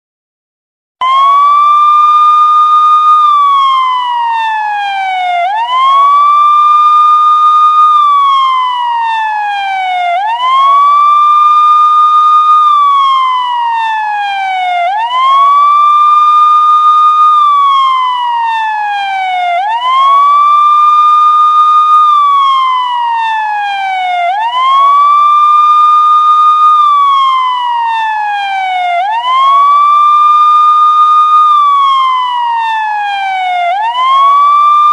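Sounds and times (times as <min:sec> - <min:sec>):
police siren wailing: 0:01.0 - 0:34.9.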